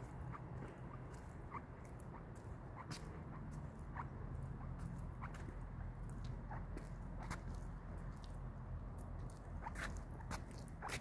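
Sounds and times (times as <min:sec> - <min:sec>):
footsteps on wet pavement: 0:00.0 - 0:11.0
steady low rumble: 0:00.0 - 0:11.0.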